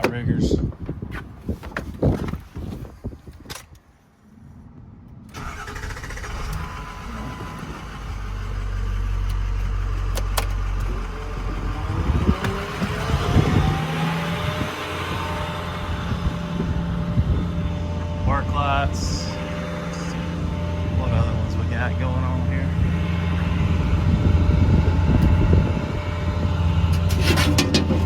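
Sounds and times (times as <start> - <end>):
truck engine starting and running: 5.0 - 28.0
rising whine: 5.3 - 28.0.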